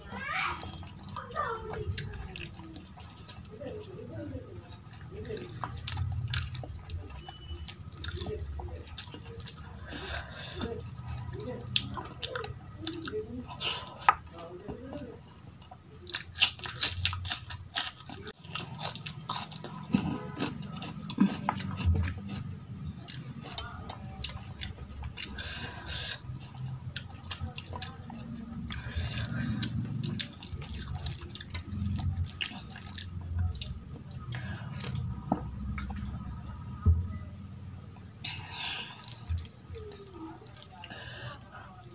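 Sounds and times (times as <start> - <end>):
smacking chewing: 0.6 - 36.4, 38.0 - 41.9.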